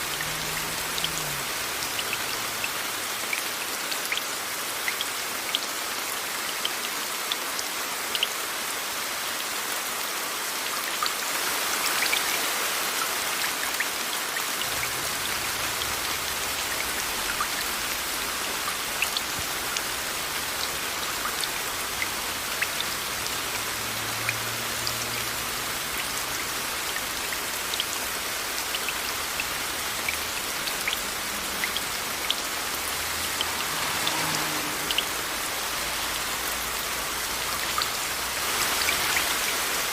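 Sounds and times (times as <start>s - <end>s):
raindrops ticking: 0.0s - 5.7s, 13.4s - 39.9s
steady rain hiss: 0.0s - 39.9s.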